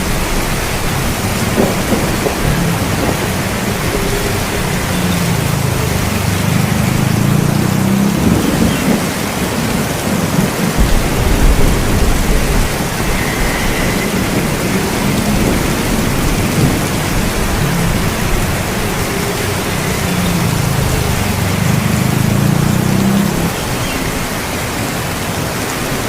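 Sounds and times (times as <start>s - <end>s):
rolling thunder: 0.0s - 24.4s
steady rain: 0.0s - 26.0s.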